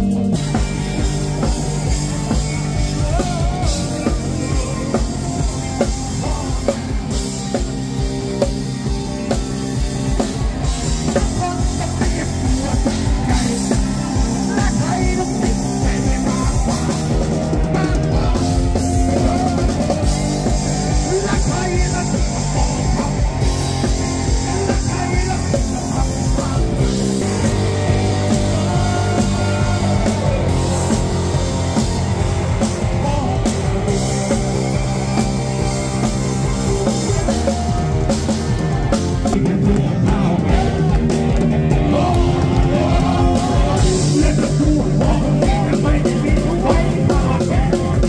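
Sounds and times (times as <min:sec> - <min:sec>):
loud rock music: 0:00.0 - 0:48.0.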